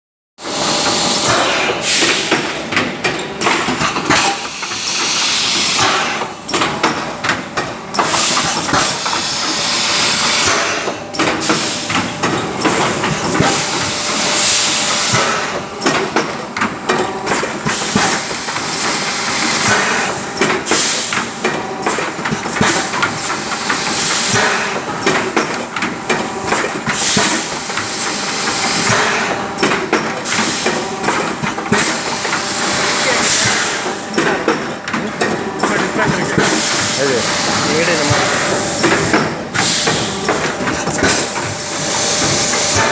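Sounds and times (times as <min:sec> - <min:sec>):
air compressor hissing: 0:00.4 - 0:42.9
compressor clicks and rattles: 0:00.5 - 0:42.9.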